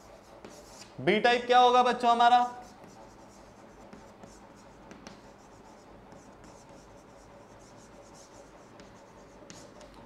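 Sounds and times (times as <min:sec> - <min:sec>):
chalk scratching on chalkboard: 0:00.0 - 0:01.0, 0:02.0 - 0:10.0.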